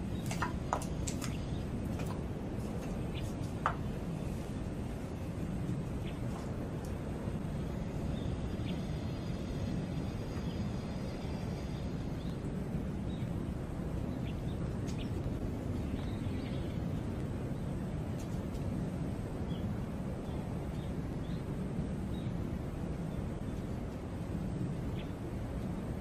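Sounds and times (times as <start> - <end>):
low outdoor background noise: 0.0 - 26.0.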